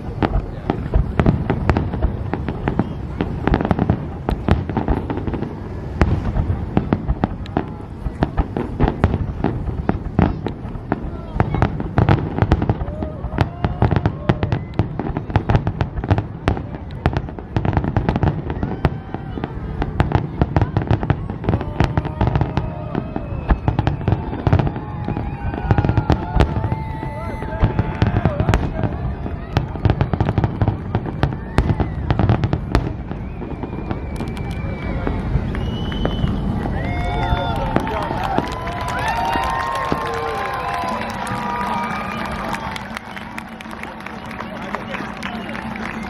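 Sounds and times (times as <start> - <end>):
constant rumble: 0.0 - 46.0
fireworks bangs and pops: 0.0 - 46.0.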